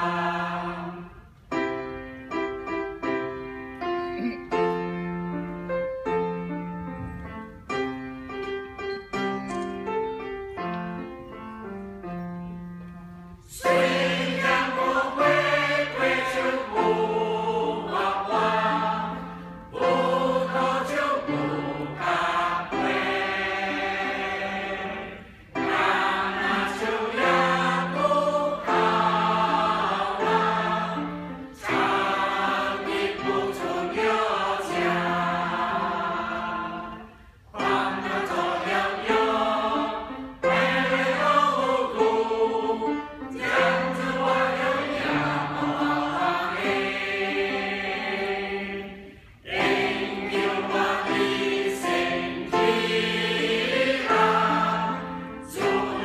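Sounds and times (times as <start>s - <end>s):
choir singing a hymn: 0.0s - 3.5s, 13.2s - 56.0s.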